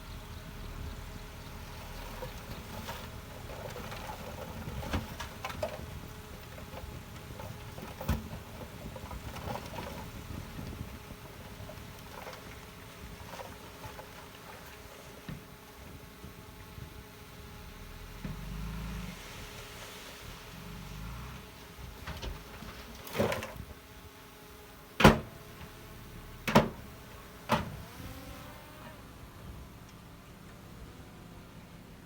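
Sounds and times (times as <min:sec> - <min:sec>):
diesel engine running: 0:00.0 - 0:23.0, 0:24.8 - 0:32.0.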